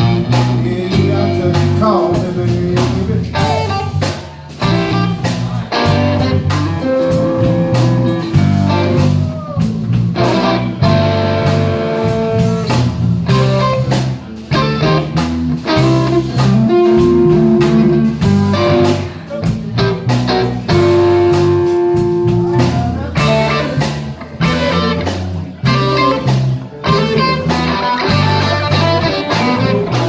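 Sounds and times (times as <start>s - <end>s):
bass line: 0.0s - 30.0s
lead guitar: 0.0s - 30.0s
steady drum beat: 0.0s - 30.0s.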